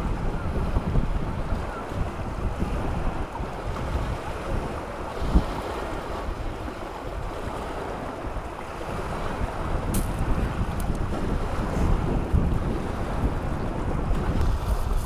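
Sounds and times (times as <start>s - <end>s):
waves washing over rocks: 0.0s - 15.0s
wind buffeting microphone: 0.0s - 15.0s.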